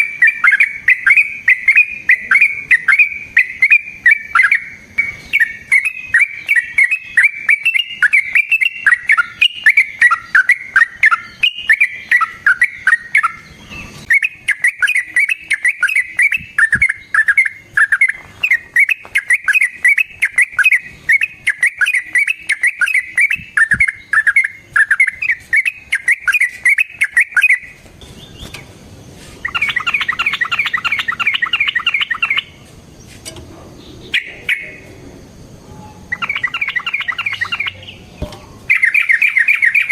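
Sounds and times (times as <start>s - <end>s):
bulbul singing chattering notes: 0.0s - 27.8s, 29.4s - 32.6s, 34.0s - 35.0s, 36.0s - 39.9s.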